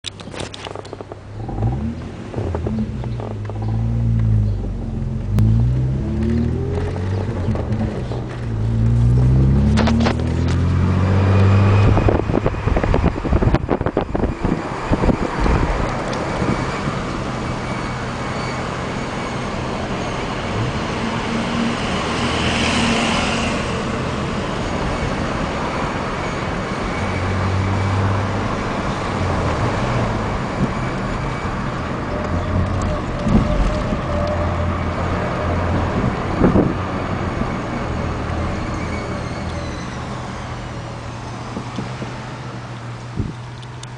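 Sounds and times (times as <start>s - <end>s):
car engine and road noise: 0.0s - 43.9s
high-pitched whine: 1.4s - 41.1s.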